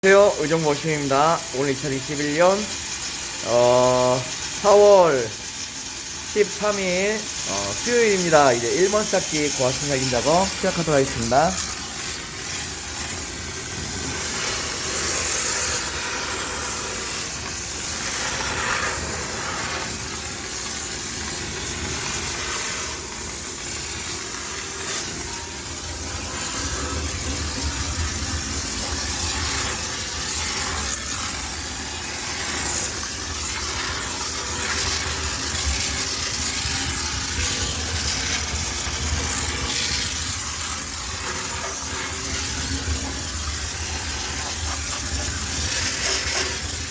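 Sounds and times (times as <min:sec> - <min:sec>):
steam cleaner hissing: 0:00.0 - 0:46.9.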